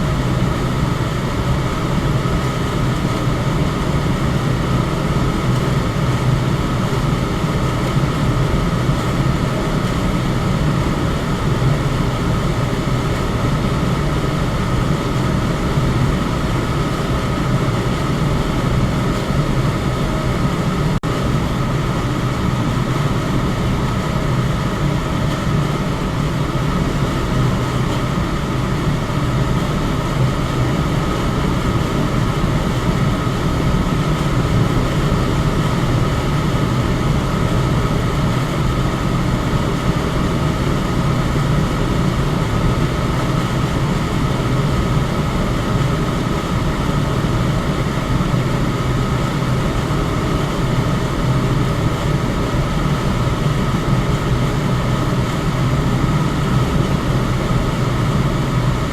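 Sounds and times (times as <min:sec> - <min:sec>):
electric fan air rush: 0:00.0 - 0:58.9.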